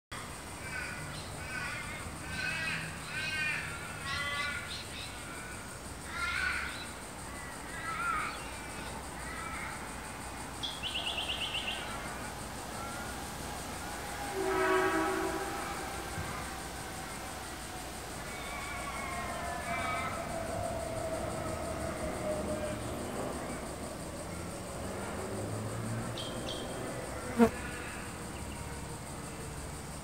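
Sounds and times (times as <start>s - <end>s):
wild birds calling: 0.6s - 24.8s, 25.5s - 28.7s.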